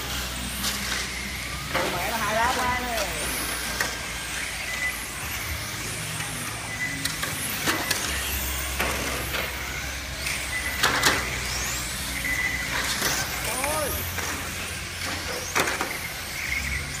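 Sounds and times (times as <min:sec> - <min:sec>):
rc cars high whine: 0:00.0 - 0:17.0.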